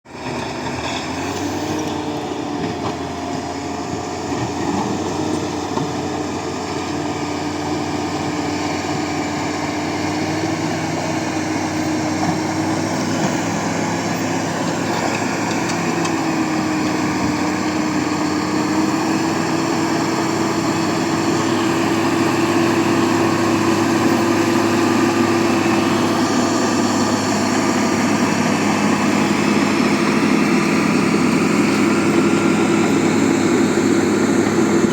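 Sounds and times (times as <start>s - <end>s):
bulldozer diesel engine running: 0.1s - 34.9s.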